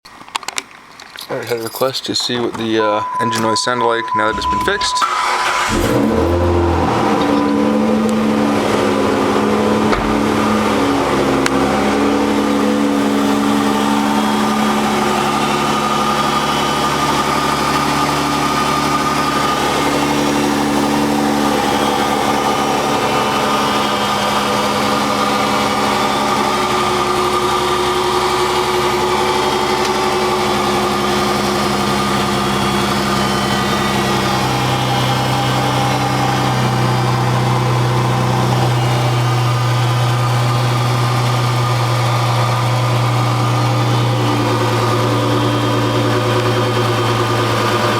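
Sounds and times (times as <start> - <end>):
car engine idling: 4.0 - 47.9.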